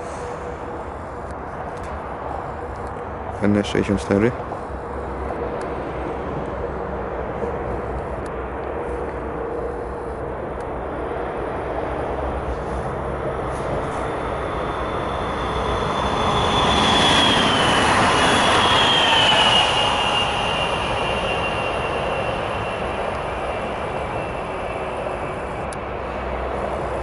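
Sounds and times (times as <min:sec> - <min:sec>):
electric train passing: 0:00.0 - 0:27.0
high whine dropping in pitch: 0:05.2 - 0:27.0.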